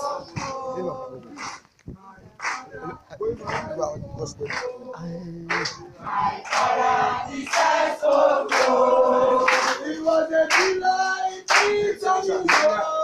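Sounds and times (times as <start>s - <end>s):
young people singing in chorus: 0.0s - 1.6s, 2.4s - 13.0s.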